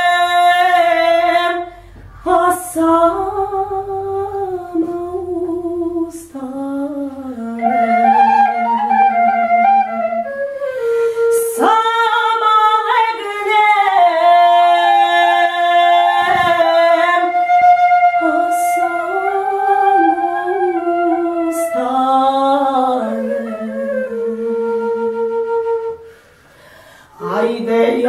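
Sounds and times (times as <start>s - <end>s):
woman singing: 0.0s - 9.6s, 11.3s - 25.2s, 27.2s - 28.0s
wooden pipe melody: 0.0s - 13.0s, 13.9s - 26.6s.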